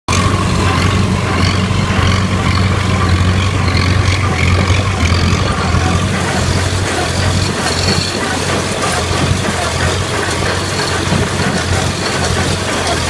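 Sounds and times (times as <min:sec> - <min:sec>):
tractor engine running under load: 0:00.1 - 0:13.0.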